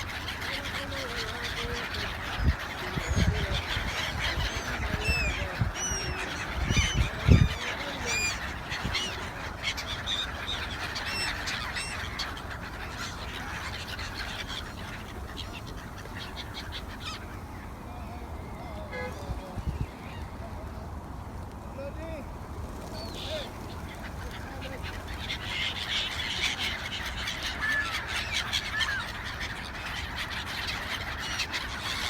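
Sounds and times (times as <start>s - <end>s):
gulls calling: 0.0s - 20.9s, 22.1s - 32.0s.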